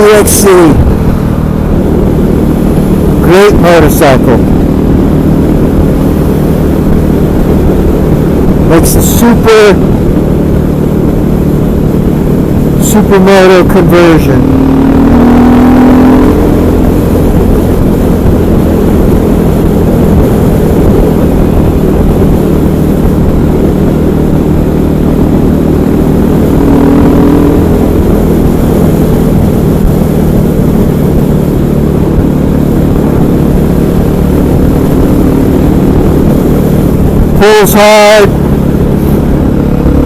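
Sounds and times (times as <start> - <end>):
motorcycle engine running: 0.0 - 40.0
wind noise: 0.0 - 40.0.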